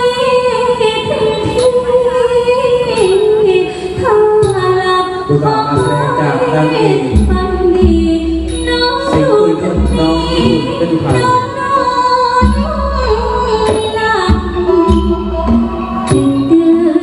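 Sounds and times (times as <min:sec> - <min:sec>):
instrumental accompaniment: 0:00.0 - 0:17.0
woman singing: 0:00.0 - 0:17.0.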